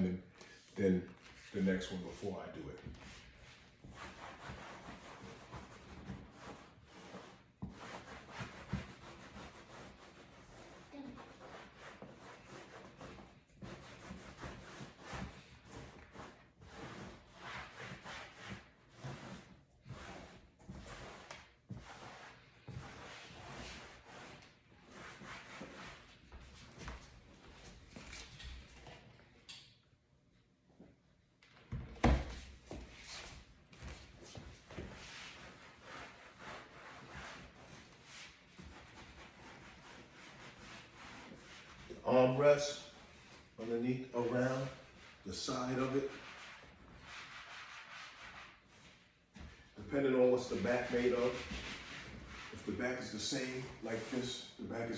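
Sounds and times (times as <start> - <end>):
cloth rubbing on leather: 3.0 - 27.8, 32.7 - 54.9.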